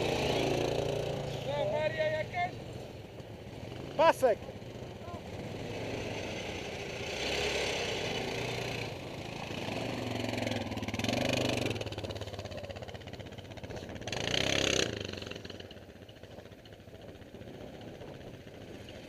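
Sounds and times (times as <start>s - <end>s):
quad bike engines revving: 0.0s - 19.0s.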